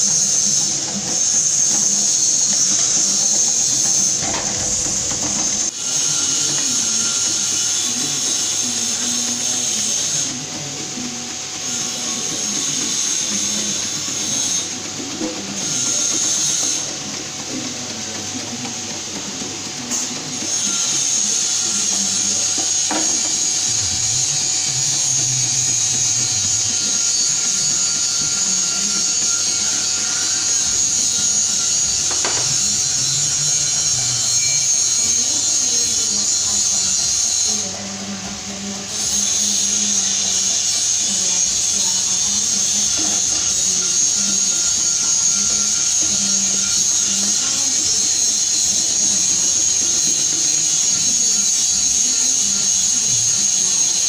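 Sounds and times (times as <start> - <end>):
slicing machine running: 0.0 - 54.0.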